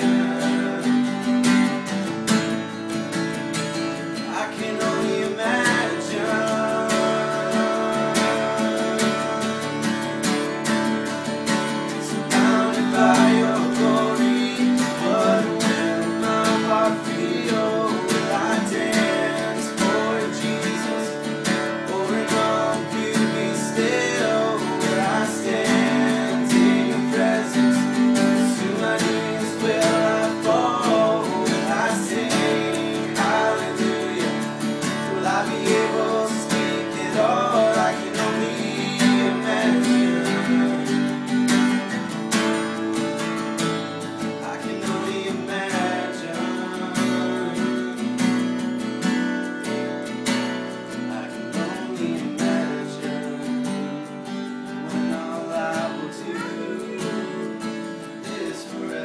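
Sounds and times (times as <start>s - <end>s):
man singing: 0.0s - 2.0s, 4.0s - 42.1s, 44.2s - 48.6s, 50.9s - 59.0s
acoustic guitars strummed: 0.0s - 59.0s.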